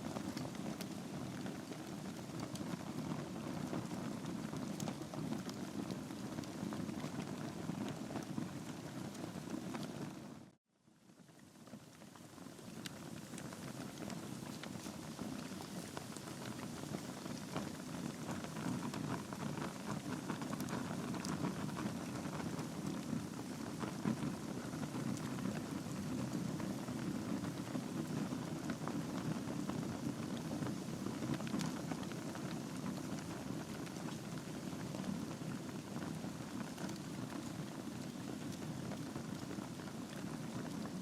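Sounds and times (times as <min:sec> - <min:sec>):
logs crackling and popping: 0:00.0 - 0:10.4, 0:11.3 - 0:41.0
wood fire burning: 0:00.0 - 0:10.5, 0:11.1 - 0:41.0.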